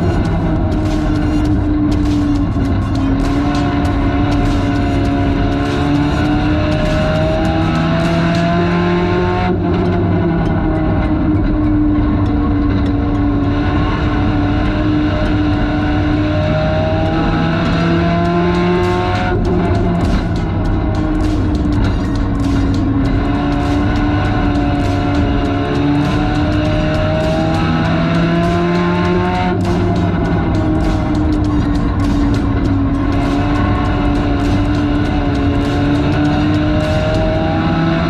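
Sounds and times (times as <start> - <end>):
race car engine at speed: 0.0 - 38.0.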